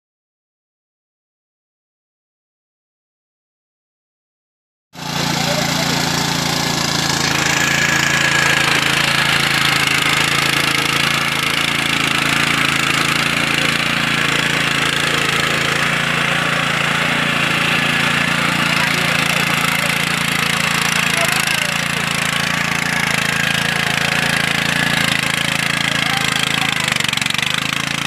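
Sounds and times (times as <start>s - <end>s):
small tiller engine running: 5.0s - 28.0s.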